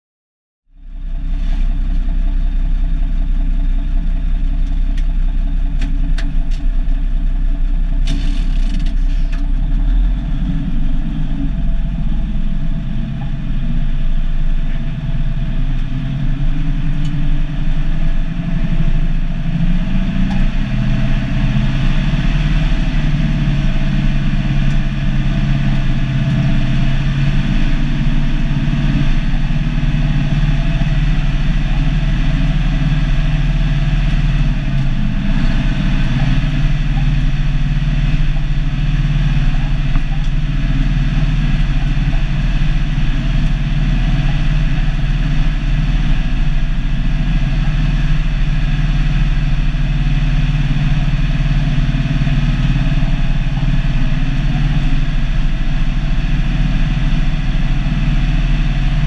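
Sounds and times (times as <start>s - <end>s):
diesel truck engine running: 0.7s - 59.0s.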